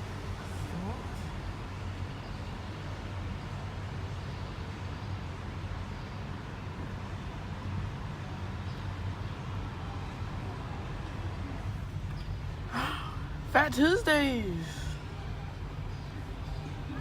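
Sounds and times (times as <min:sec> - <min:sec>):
vehicle road noise rumble: 0:00.0 - 0:17.0.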